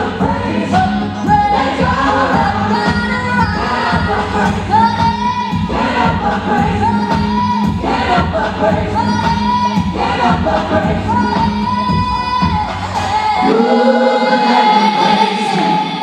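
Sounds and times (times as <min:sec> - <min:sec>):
band with steady beat: 0:00.0 - 0:13.4
choir singing gospel song: 0:00.0 - 0:16.0.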